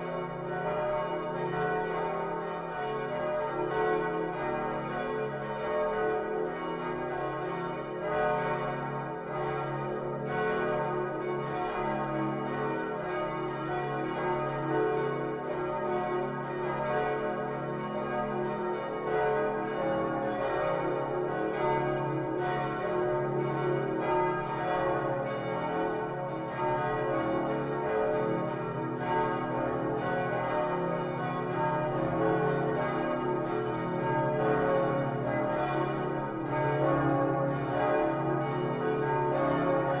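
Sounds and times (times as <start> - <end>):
church bells pealing: 0.0 - 40.0.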